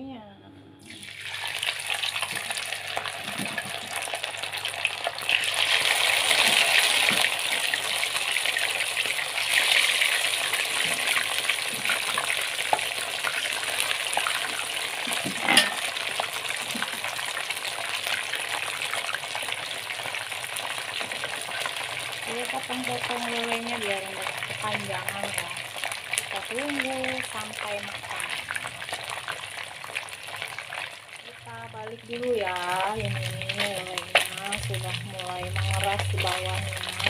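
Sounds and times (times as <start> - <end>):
fish frying in hot oil: 0.9 - 37.0.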